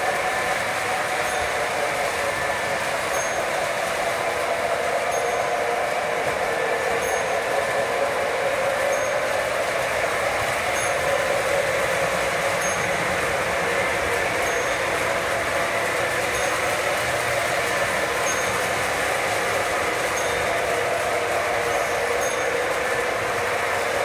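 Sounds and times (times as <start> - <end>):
model train motors whirring: 0.0 - 24.0.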